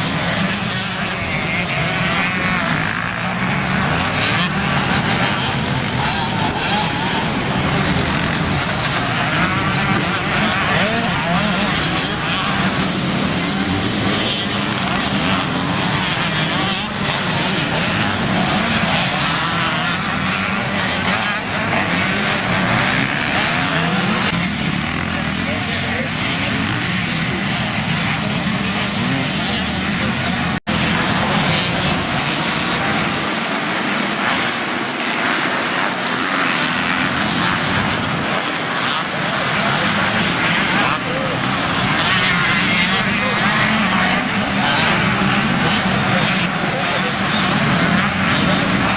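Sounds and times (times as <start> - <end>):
motorcycle engines revving high: 0.0 - 48.9.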